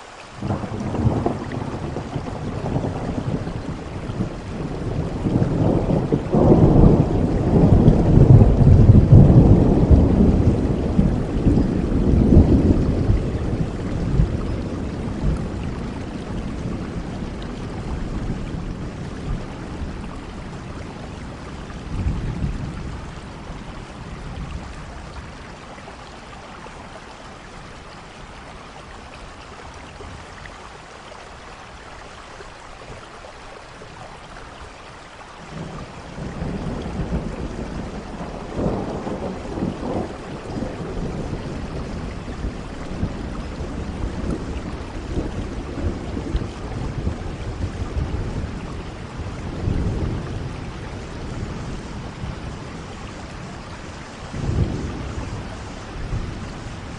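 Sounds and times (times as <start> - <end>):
steady rain: 0.0 - 56.9
rolling thunder: 0.4 - 25.5, 35.5 - 56.9.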